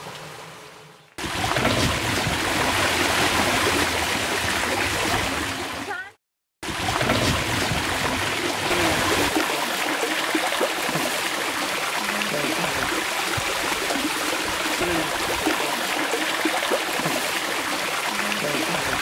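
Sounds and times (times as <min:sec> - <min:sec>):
water running: 0:00.0 - 0:19.0.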